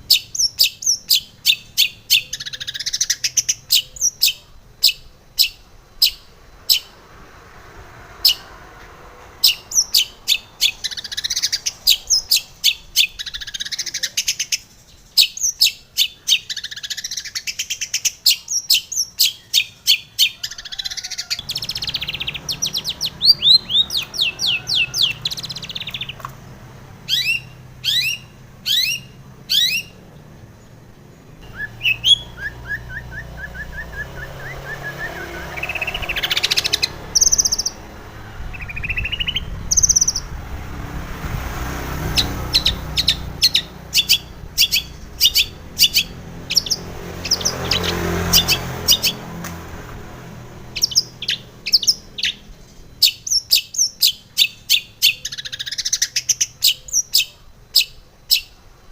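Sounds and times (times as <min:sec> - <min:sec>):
bird singing chirps and trills: 0:00.0 - 0:07.2, 0:08.1 - 0:08.6, 0:09.2 - 0:58.9.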